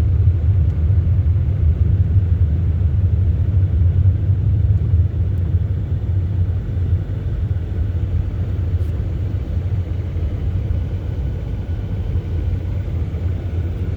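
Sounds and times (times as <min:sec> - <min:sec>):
bus engine and road noise: 0:00.0 - 0:13.9.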